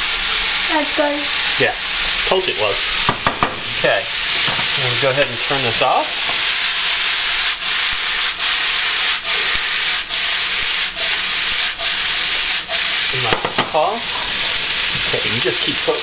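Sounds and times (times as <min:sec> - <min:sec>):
cabbage sizzling in a skillet: 0:00.0 - 0:16.0
food sliding in a pan: 0:00.0 - 0:16.0.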